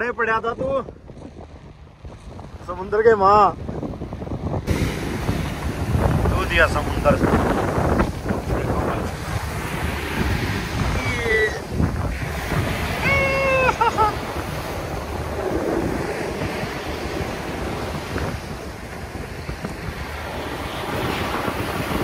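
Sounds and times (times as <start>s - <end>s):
wind buffeting microphone: 0.0s - 22.0s
sea waves washing in: 1.1s - 22.0s.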